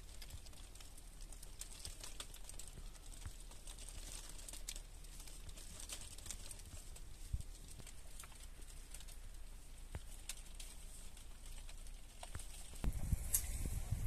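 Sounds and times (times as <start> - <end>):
dry leaves crinkling: 0.0 - 14.0.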